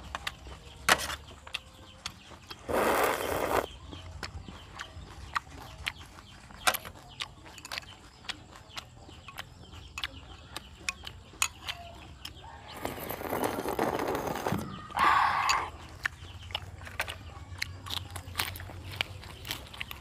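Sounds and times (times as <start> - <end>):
wet chewing sounds: 0.0 - 20.0.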